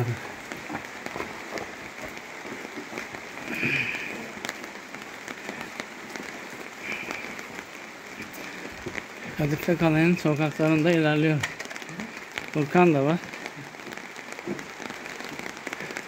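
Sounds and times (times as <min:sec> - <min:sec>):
rain hissing on wet street: 0:00.0 - 0:16.0
raindrop ticks: 0:00.0 - 0:16.0.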